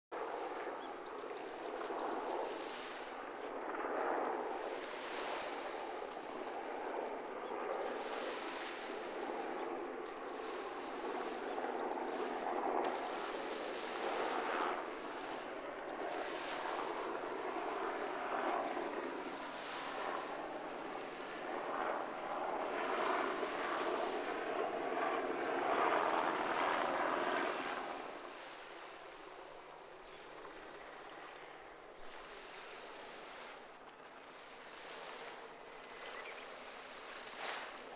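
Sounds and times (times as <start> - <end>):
small waves breaking on beach: 0.2 - 37.9.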